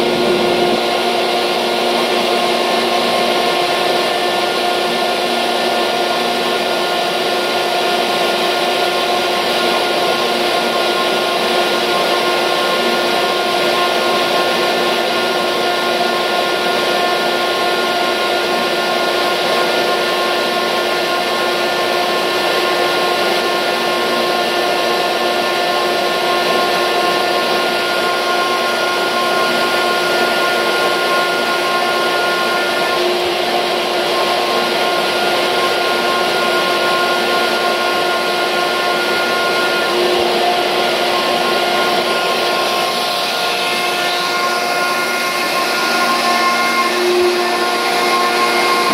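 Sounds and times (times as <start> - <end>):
air compressor running: 0.0 - 48.9
steady whining tones: 0.0 - 48.9.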